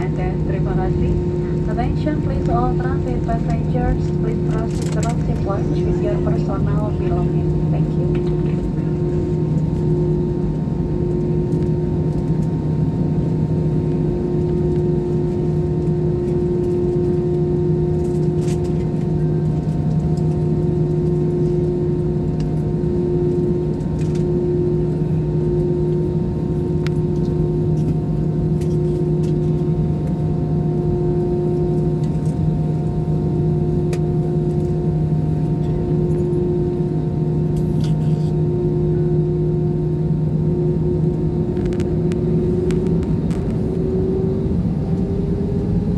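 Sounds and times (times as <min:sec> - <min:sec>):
airliner cabin drone: 0:00.0 - 0:45.9.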